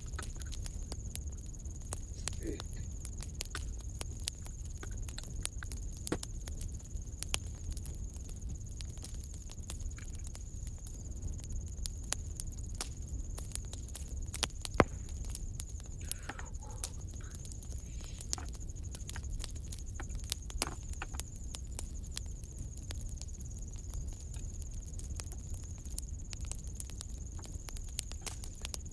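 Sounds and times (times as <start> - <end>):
soldering clicks and crackle: 0.0 - 28.9
steady low hum: 0.0 - 28.9.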